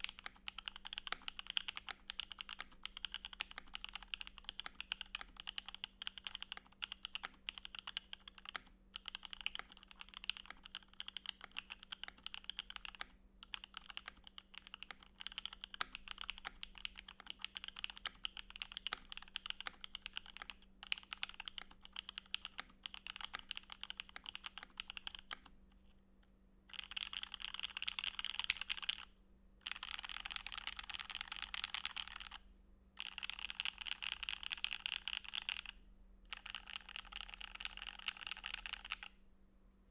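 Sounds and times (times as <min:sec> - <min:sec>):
mechanical keyboard typing: 0:00.0 - 0:25.5, 0:26.7 - 0:32.4, 0:33.0 - 0:39.2.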